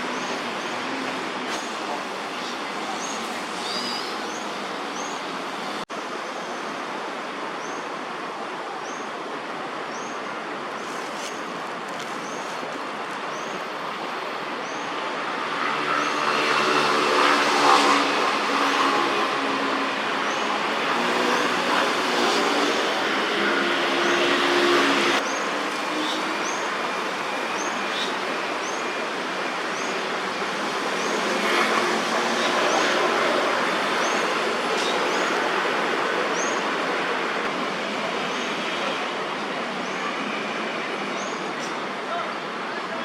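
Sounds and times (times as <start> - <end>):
road traffic noise: 0.0 - 43.0.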